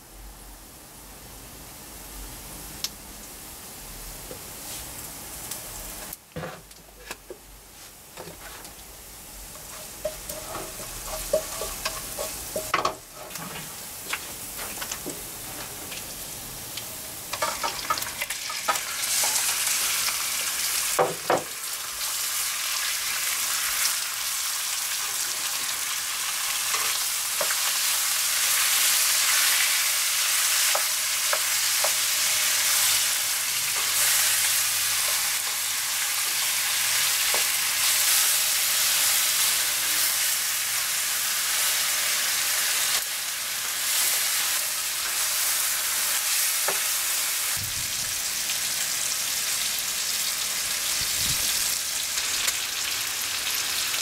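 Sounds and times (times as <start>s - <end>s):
food frying in a pan: 0.9s - 54.0s.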